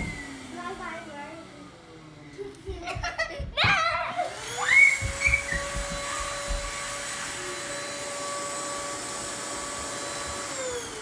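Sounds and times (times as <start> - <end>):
vacuum cleaner motor whining: 0.0 - 11.0.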